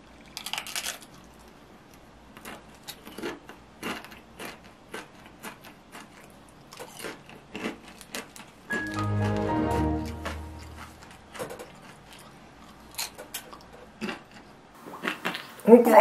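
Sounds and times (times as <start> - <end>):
tortilla chip crunching: 0.2 - 9.4, 10.1 - 15.5.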